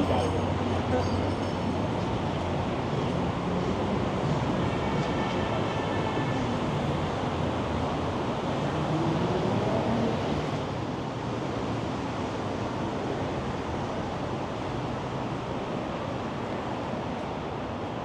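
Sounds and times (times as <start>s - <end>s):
city street noise: 0.0s - 18.0s.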